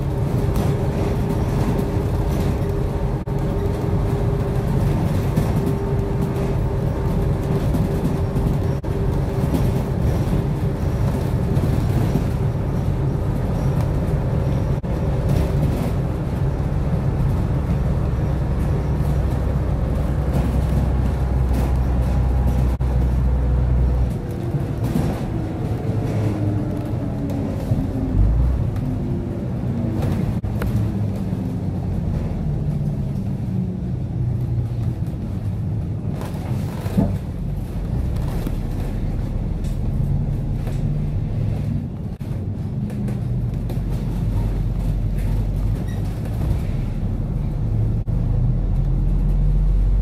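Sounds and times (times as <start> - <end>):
vehicle engine and road noise: 0.0 - 50.0.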